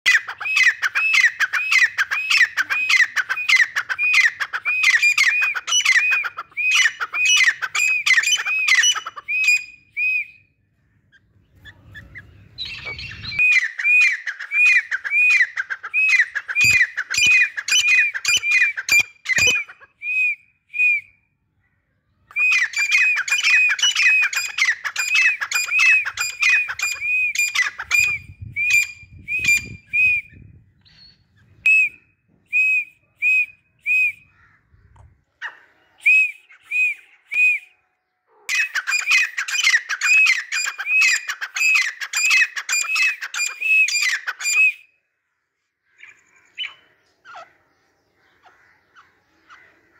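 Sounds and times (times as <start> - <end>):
bird calling shrill notes: 0.1 - 21.4, 22.2 - 34.7, 38.5 - 45.1, 45.9 - 47.5.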